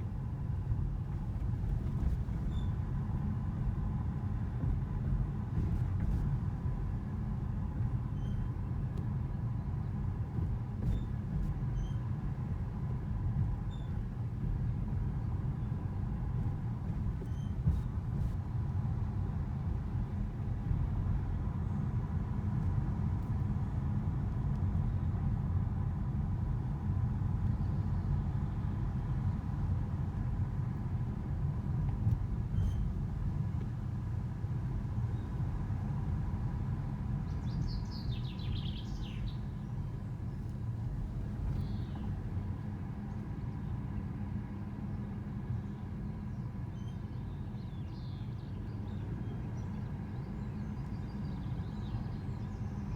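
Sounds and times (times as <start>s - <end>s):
car driving low rumble: 0.0s - 52.9s.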